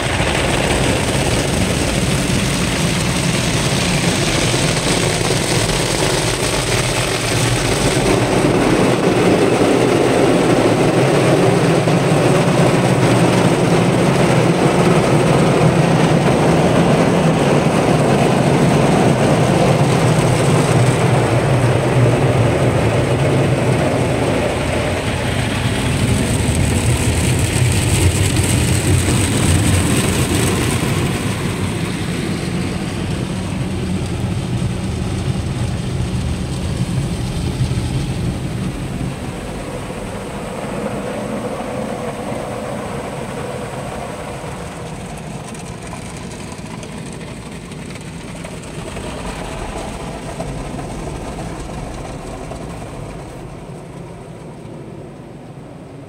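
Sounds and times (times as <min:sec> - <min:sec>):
water spraying on windscreen: 0:00.0 - 0:55.0
low machinery drone: 0:00.0 - 0:56.0.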